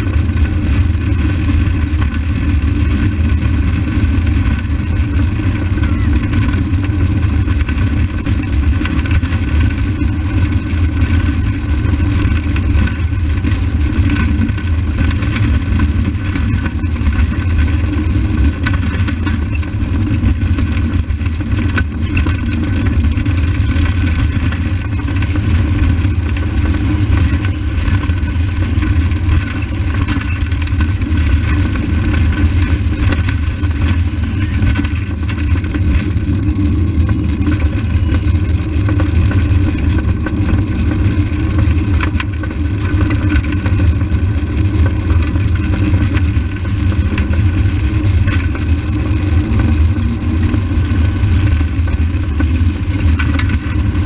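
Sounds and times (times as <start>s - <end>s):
cart wheels rolling on asphalt: 0.0s - 54.0s.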